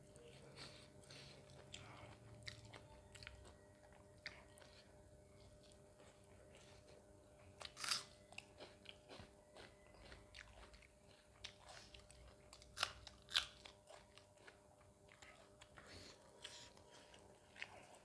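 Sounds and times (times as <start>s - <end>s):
person chewing food: 0.1s - 18.0s.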